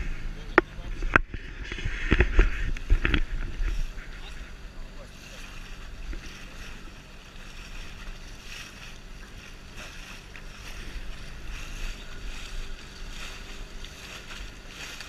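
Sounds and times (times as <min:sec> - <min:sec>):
outboard motor humming: 0:00.0 - 0:15.0
water splashing along hull: 0:01.2 - 0:15.0.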